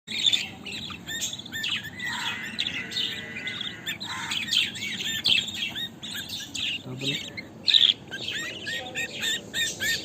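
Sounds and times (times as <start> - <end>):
budgerigars chirping and chattering: 0.1 - 10.0.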